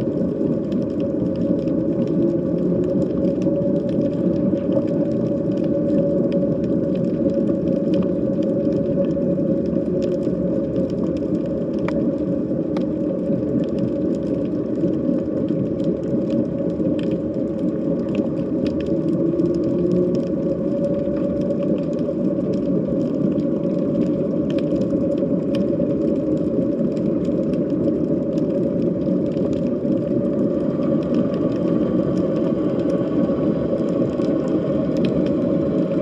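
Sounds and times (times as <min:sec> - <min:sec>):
underwater low drone: 0:00.0 - 0:36.0.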